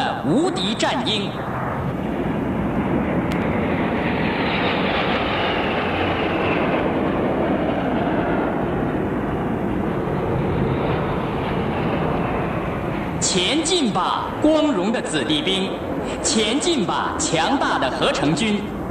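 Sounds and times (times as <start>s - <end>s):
jet aircraft flying over: 0.0s - 18.9s.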